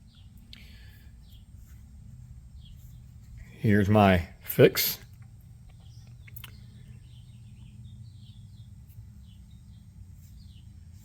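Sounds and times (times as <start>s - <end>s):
faint birds chirping: 0.0s - 11.0s
steady low hum: 0.0s - 11.0s.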